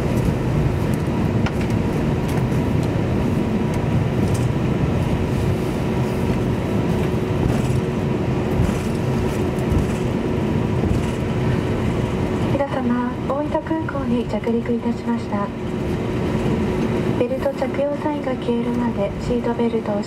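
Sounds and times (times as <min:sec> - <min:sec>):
jet engines at low power: 0:00.0 - 0:20.0.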